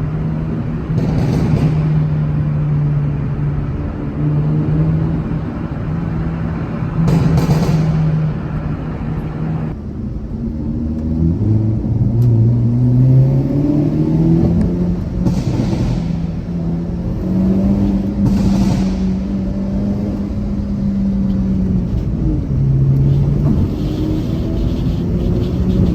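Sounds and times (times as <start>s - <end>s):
car engine accelerating through gears: 0.0s - 25.9s.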